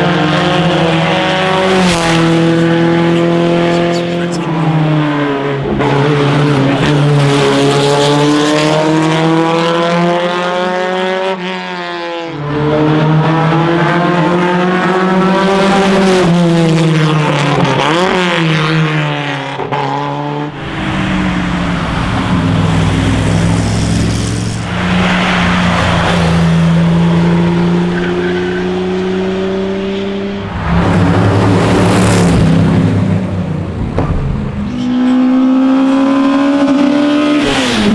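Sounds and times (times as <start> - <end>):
racing car engines accelerating: 0.0 - 37.9.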